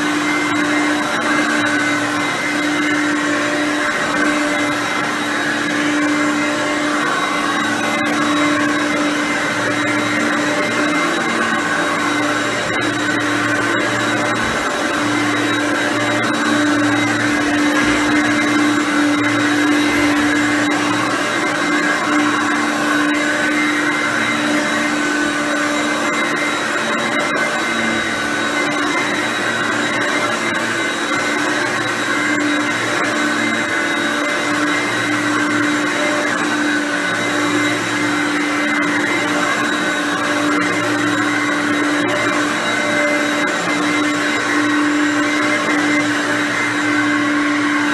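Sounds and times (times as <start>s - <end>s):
upright vacuum cleaner running: 0.0s - 47.9s.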